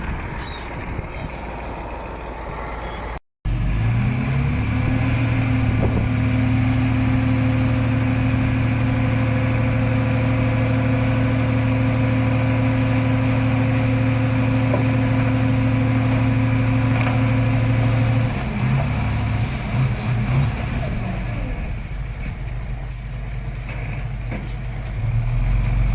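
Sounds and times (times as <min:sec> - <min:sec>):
heavy diesel engine running: 0:00.0 - 0:25.9.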